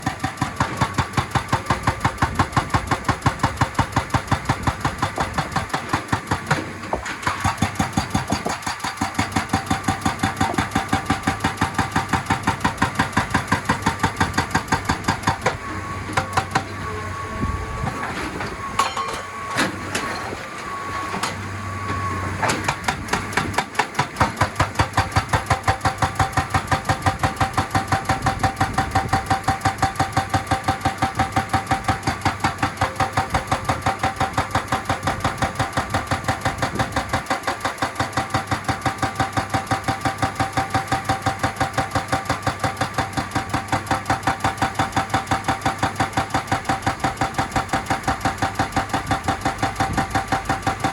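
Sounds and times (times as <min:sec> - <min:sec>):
excavator engine running: 0:00.0 - 0:50.9
hydraulic breaker hammering rock: 0:00.0 - 0:50.9.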